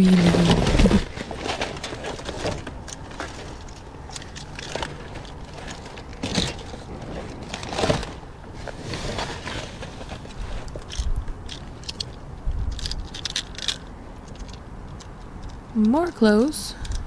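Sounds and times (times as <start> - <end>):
clothes hangers clattering: 0.0 - 8.2, 9.1 - 17.0
plastic and cardboard rustling: 0.0 - 14.6.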